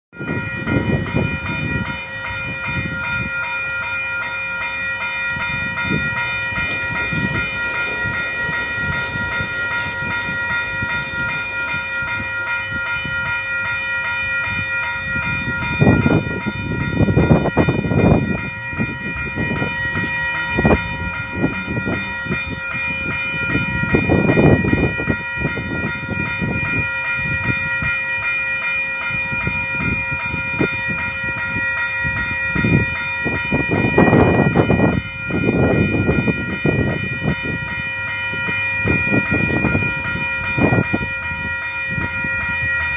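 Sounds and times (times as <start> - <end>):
level crossing warning bell: 0.1 - 42.9.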